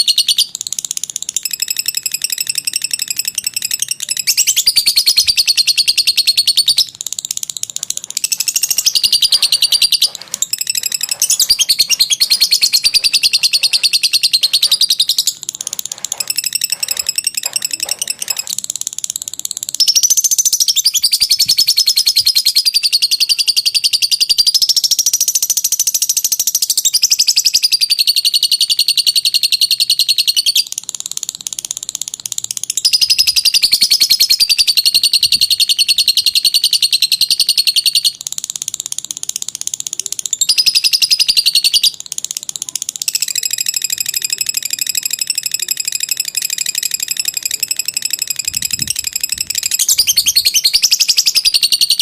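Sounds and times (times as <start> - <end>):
bird chattering trill: 0.0 - 52.0.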